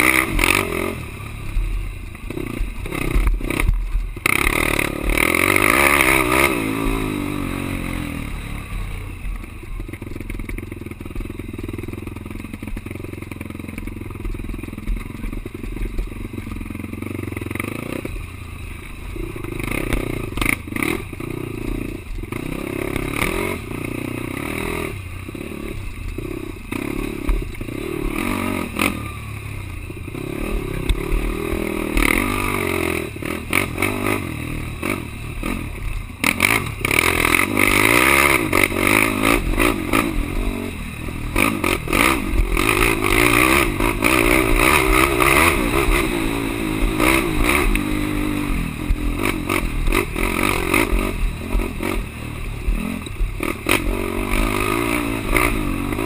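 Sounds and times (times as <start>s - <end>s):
quad engine revving: 0.0s - 1.4s, 2.3s - 9.1s, 9.9s - 18.2s, 18.8s - 56.0s.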